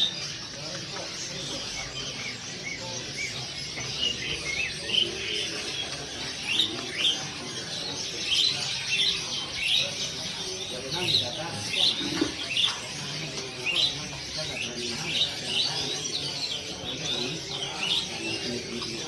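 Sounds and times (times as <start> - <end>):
din of birds: 0.0 - 19.0
songbirds chirping: 0.0 - 19.0.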